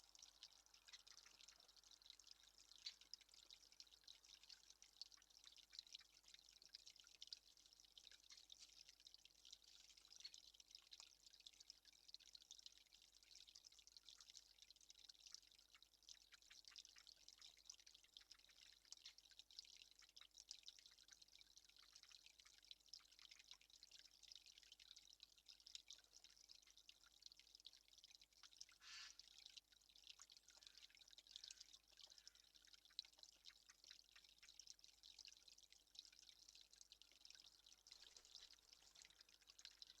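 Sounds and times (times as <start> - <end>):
water dripping: 0.0 - 40.0.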